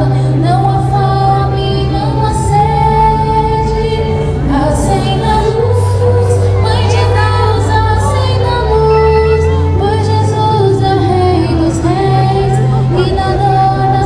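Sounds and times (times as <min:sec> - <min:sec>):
voices singing folk song: 0:00.0 - 0:14.0.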